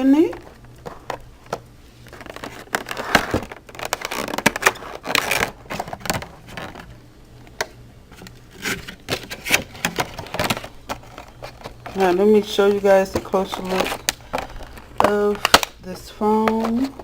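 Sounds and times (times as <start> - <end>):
packaging crinkling: 0.2 - 17.0.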